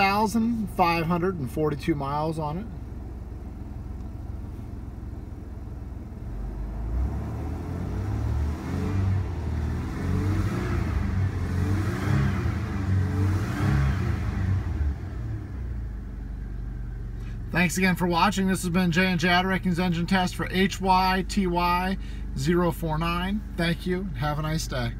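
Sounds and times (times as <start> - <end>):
car engine idling and revving: 0.0 - 24.9.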